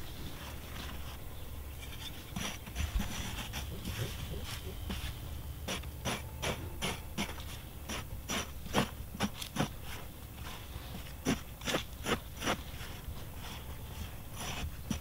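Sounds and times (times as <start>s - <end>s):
hoe chopping sandy soil: 2.3s - 15.0s.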